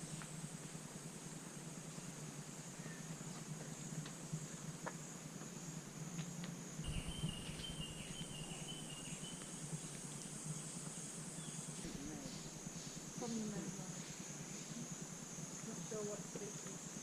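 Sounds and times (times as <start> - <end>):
lower stuttering insect trill: 0.0 - 17.0.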